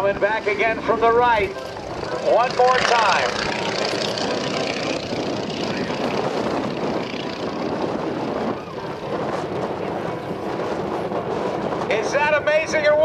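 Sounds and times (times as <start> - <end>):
propeller plane engine drone: 0.0 - 13.0.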